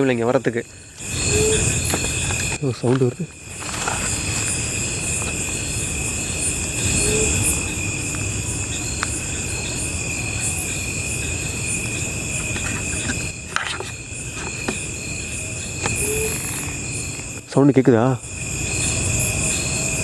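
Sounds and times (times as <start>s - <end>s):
crickets and insects trilling: 0.0s - 20.0s.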